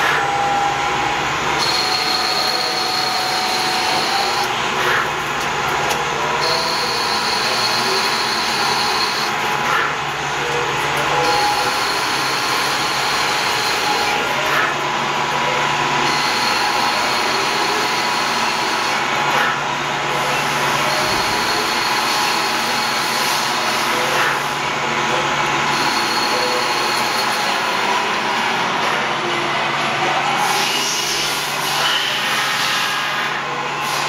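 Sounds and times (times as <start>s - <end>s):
lathe cutting thread: 1.3s - 24.7s, 25.3s - 29.5s, 30.4s - 34.0s.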